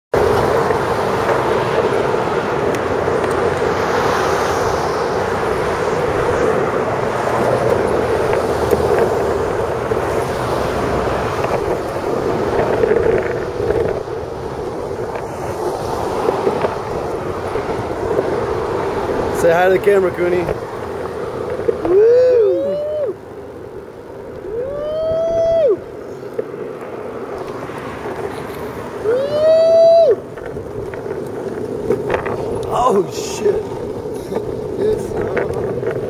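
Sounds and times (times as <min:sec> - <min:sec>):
skateboard wheels rolling on asphalt: 0:00.1 - 0:36.0
wind buffeting microphone: 0:00.1 - 0:36.0.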